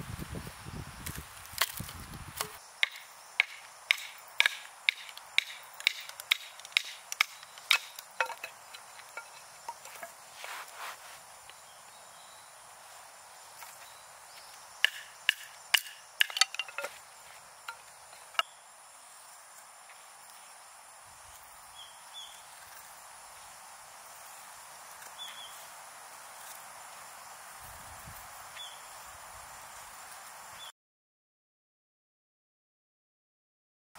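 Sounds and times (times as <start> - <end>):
steady hiss: 0.0 - 30.7.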